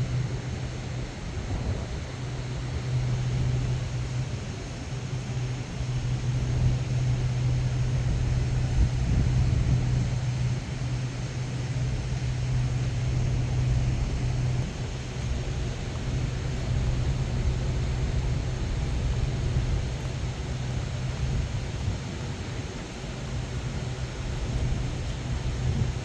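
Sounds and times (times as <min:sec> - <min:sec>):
constant rushing noise: 0:00.0 - 0:26.0
ship machinery hum: 0:00.0 - 0:26.0
wind rumbling on microphone: 0:00.0 - 0:26.0.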